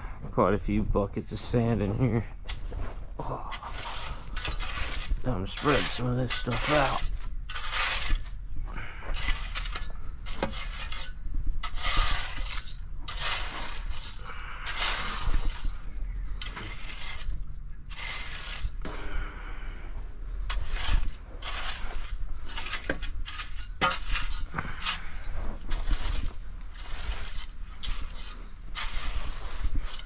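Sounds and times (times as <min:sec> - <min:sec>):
rake scraping through sand: 0:02.6 - 0:18.9, 0:20.5 - 0:30.0.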